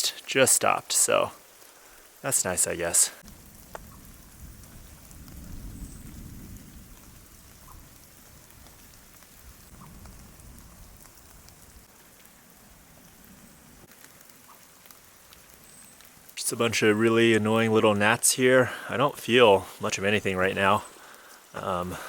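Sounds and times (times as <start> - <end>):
light rain pattering: 0.0 - 22.0.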